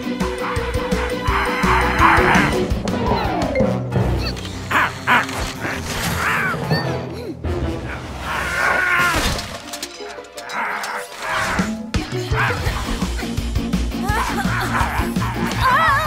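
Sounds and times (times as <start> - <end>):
cartoon background music: 0.0 - 16.0.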